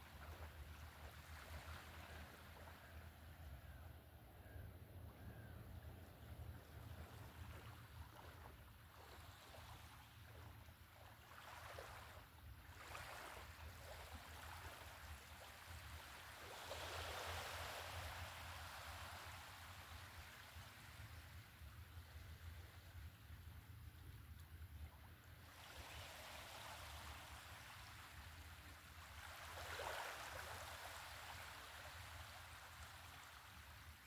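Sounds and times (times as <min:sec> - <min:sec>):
small waves lapping: 0:00.0 - 0:03.4, 0:06.1 - 0:34.0.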